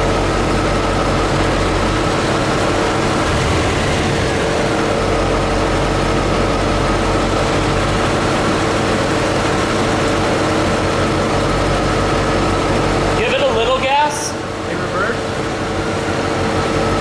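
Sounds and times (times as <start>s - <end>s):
misfiring car engine idling: 0.0s - 17.0s.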